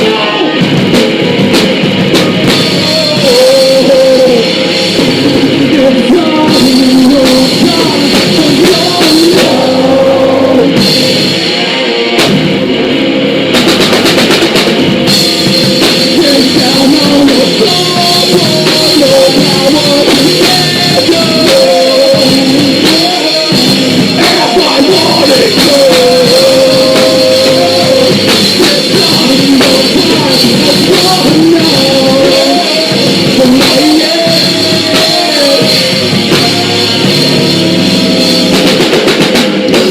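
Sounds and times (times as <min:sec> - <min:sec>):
person singing: 0:00.0 - 0:12.7, 0:15.8 - 0:39.9
drum kit: 0:00.0 - 0:39.9
punk rock band playing: 0:00.0 - 0:39.9.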